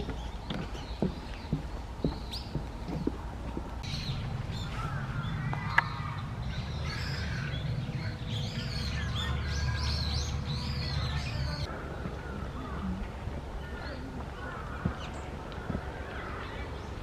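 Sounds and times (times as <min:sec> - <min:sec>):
small birds chirping: 0:00.0 - 0:17.0
steady low rumble: 0:01.6 - 0:17.0.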